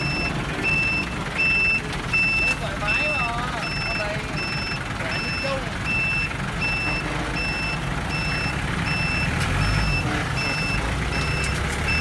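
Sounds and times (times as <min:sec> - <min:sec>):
diesel forklift engine running: 0:00.0 - 0:12.0
reversing beeper short high beeps: 0:00.0 - 0:12.0.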